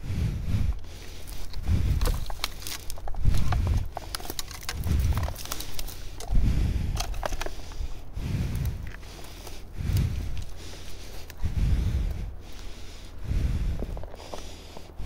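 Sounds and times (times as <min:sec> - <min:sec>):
footsteps crunching dry twigs: 0:00.7 - 0:15.0.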